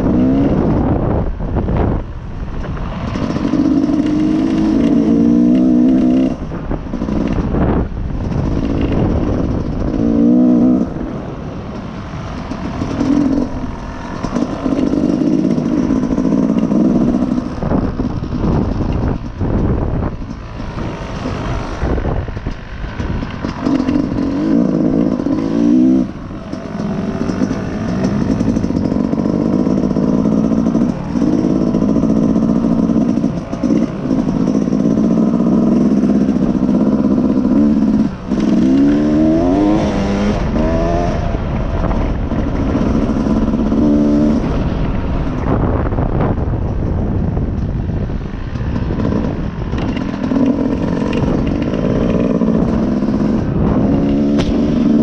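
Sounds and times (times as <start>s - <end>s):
dirt bike engine revving: 0.0s - 46.3s, 48.4s - 55.0s.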